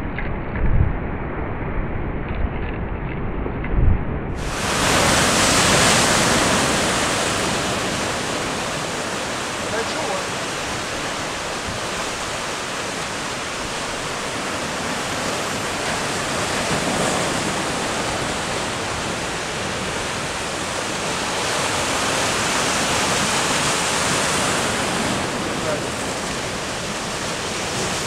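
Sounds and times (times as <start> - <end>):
surf washing over rocks: 4.4 - 28.0.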